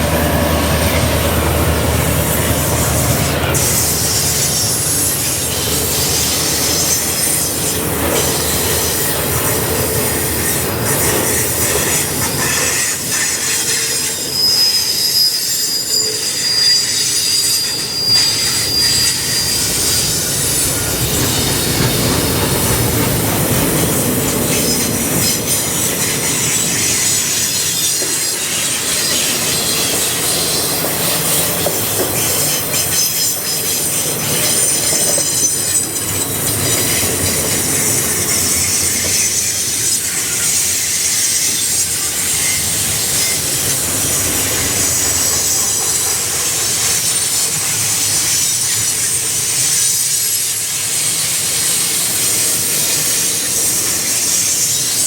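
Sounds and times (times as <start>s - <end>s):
rumble of train: 0.0s - 55.0s
steel wheels squealing on rails: 0.0s - 55.0s.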